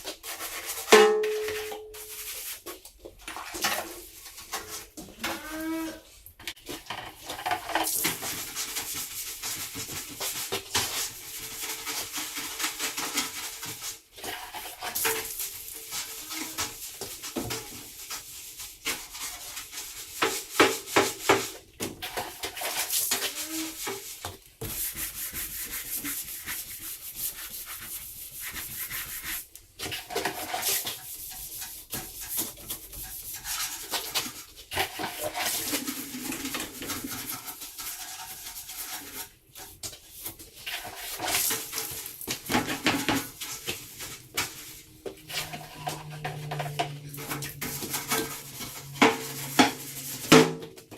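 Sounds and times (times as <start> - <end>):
stiff brush scrubbing: 7.8 - 21.6, 22.2 - 50.4.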